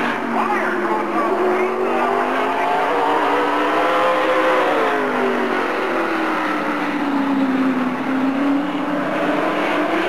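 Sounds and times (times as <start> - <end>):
race car engines passing: 0.0 - 10.0.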